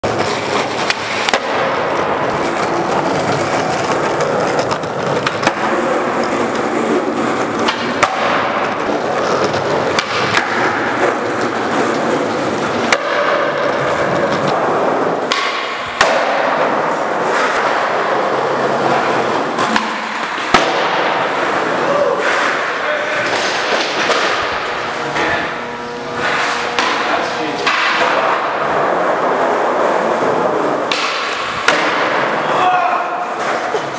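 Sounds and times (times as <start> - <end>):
skateboard clacking and landing: 0.0 - 33.9
skateboard wheels rolling on concrete: 0.0 - 33.9.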